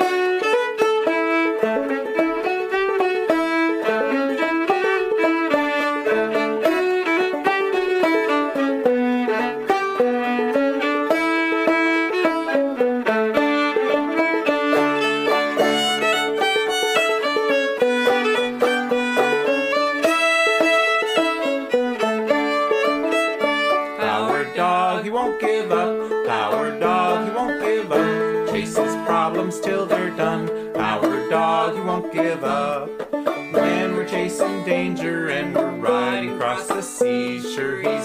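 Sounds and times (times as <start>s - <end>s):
bowed string melody: 0.0s - 38.0s
plucked string runs: 0.0s - 38.0s.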